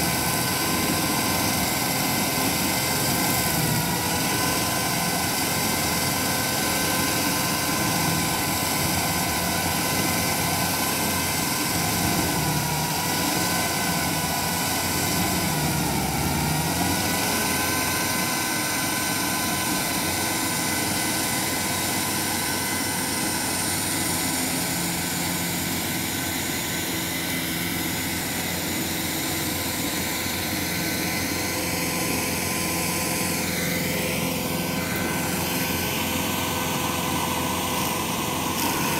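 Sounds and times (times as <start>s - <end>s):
stump grinder running: 0.0s - 38.9s.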